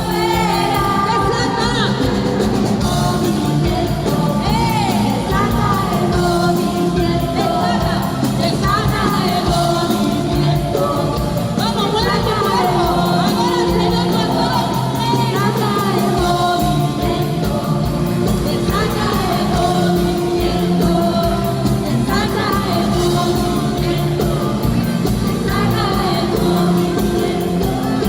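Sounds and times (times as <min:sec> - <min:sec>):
church band playing: 0:00.0 - 0:28.0
people singing: 0:00.0 - 0:28.0.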